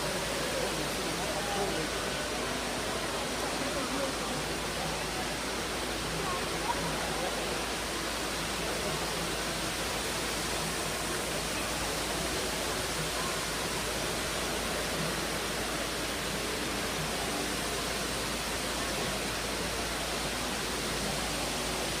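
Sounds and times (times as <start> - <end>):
water cascading down walls: 0.0 - 22.0.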